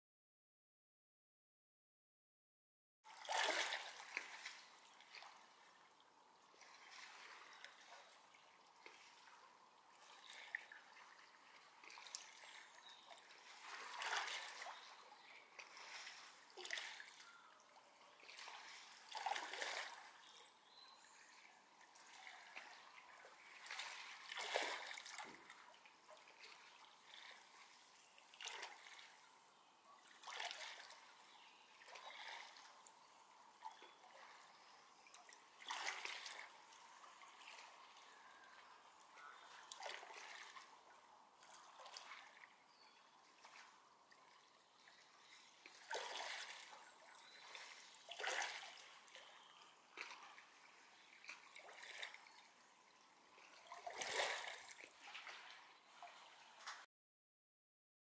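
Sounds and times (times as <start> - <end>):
shallow water lapping: 3.1 - 56.8.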